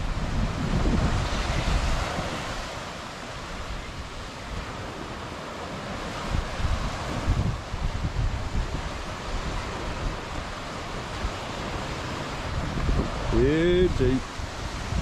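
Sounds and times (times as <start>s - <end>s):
small waves breaking on beach: 0.0s - 15.0s
wind buffeting microphone: 0.0s - 15.0s.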